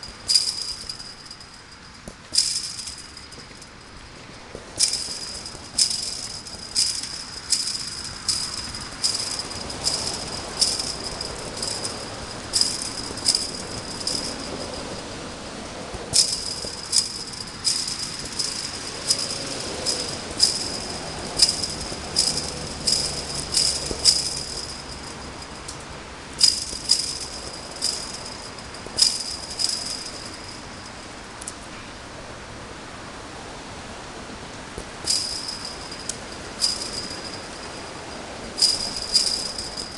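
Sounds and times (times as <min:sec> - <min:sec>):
chain-link fence rattling: 0:00.0 - 0:31.6, 0:34.8 - 0:39.9.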